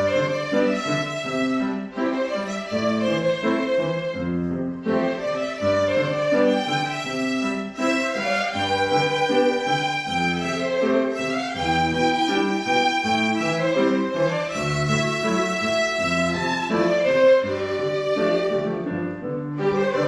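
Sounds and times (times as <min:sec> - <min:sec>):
bowed strings slow melody: 0:00.0 - 0:20.0.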